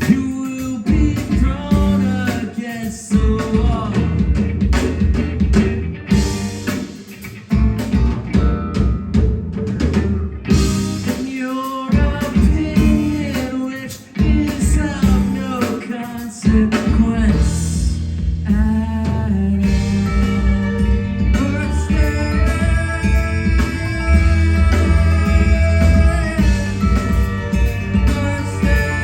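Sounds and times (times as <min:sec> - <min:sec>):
live rock band playing: 0:00.0 - 0:29.0
steady drum beat: 0:00.0 - 0:29.0.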